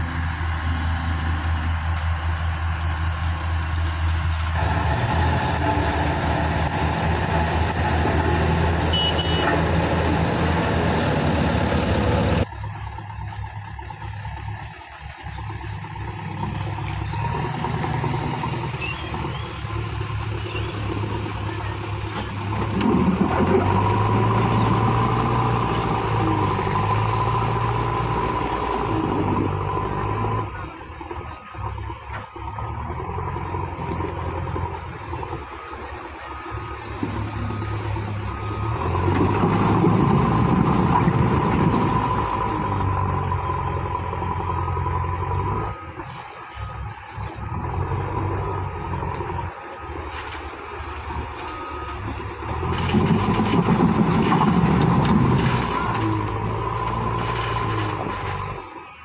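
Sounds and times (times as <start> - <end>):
backhoe loader diesel engine: 0.0 - 59.0
road roller diesel engine: 0.0 - 59.0
tractor diesel engine: 0.0 - 59.0.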